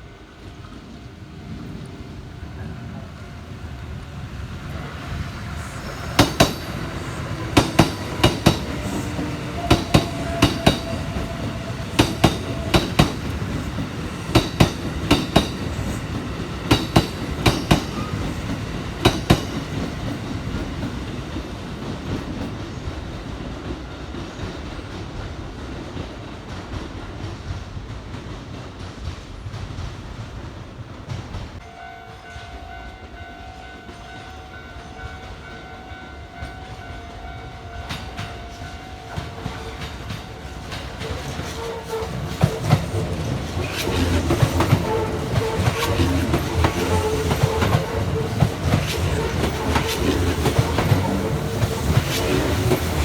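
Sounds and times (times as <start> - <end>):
train running rumble: 0.0 - 31.6, 35.0 - 53.0
train wheels clacking on rail joints: 5.6 - 31.6, 35.0 - 53.0.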